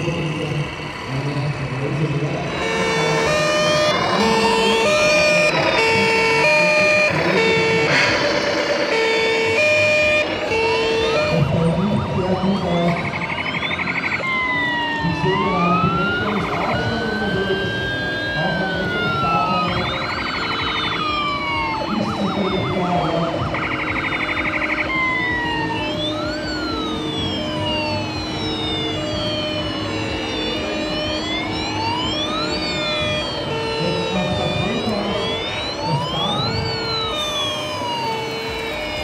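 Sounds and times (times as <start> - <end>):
fast yelping siren warble: 0.0 - 39.0
siren wailing: 0.0 - 39.0
two-tone siren horn: 0.0 - 39.0.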